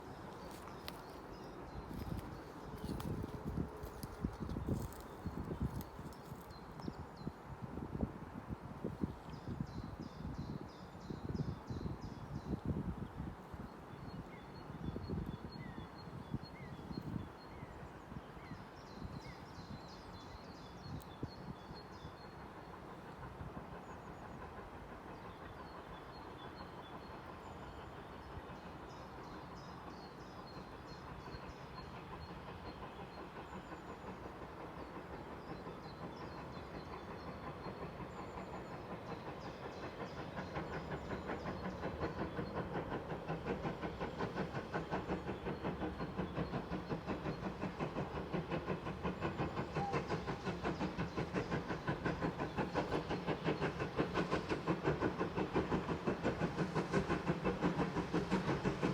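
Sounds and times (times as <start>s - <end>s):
steam locomotive chuffing: 0.0s - 58.9s.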